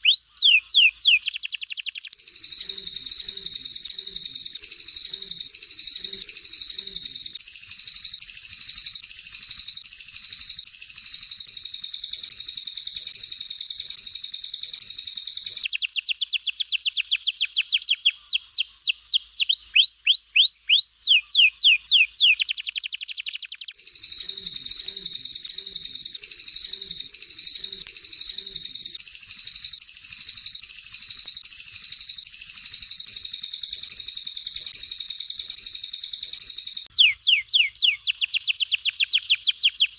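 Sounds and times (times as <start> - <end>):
high-pitched bird twittering: 0.0 - 39.9
rapid down-slurred bird whistles: 0.0 - 39.9.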